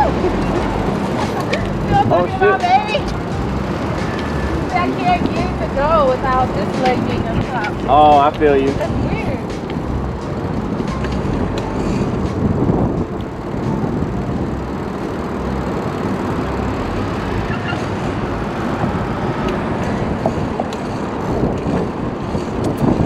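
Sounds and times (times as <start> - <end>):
tyre and road noise: 0.0 - 23.0
wind buffeting microphone: 0.0 - 23.0.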